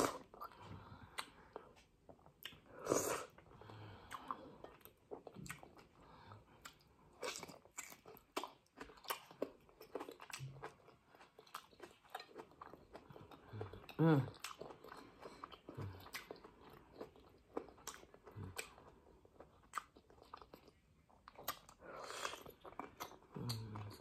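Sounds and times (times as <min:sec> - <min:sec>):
person chewing with wet smacks: 0:00.0 - 0:24.0.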